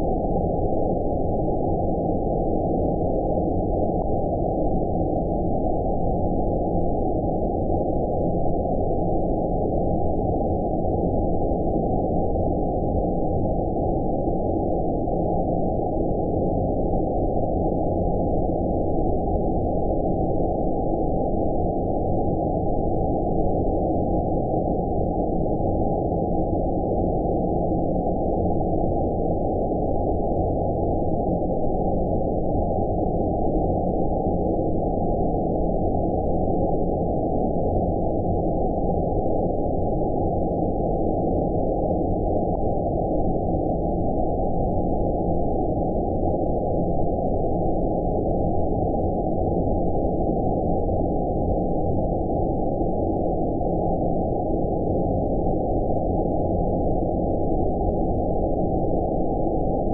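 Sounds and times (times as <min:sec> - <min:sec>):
deep filtered white noise: 0:00.0 - 0:59.9.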